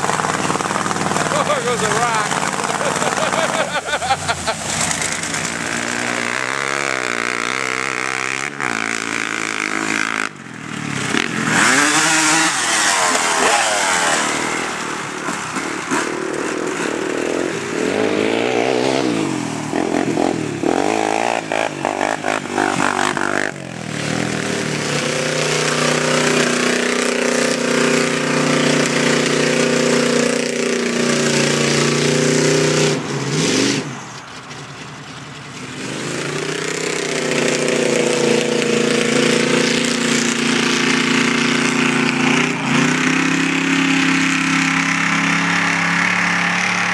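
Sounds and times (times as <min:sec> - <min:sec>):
off-road vehicle engine revving: 0:00.0 - 0:46.9.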